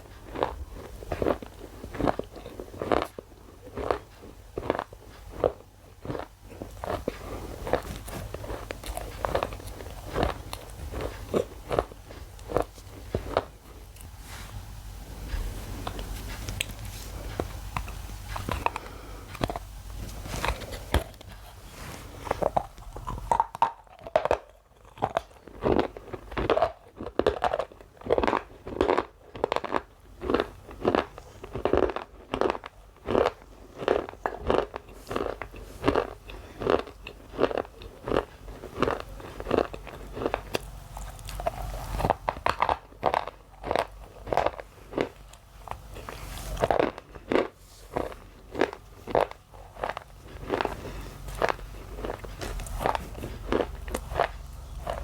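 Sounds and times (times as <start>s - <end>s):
crisp crunching chewing: 0.0s - 14.5s, 15.1s - 55.0s.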